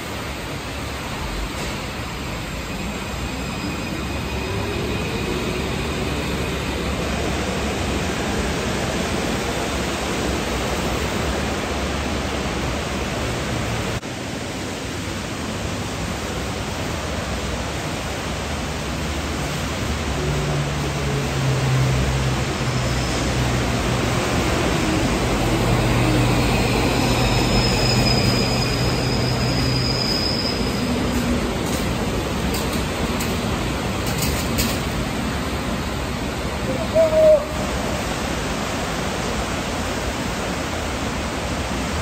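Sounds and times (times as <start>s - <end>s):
low train hum: 0.0s - 42.0s
rain hissing: 0.0s - 42.0s.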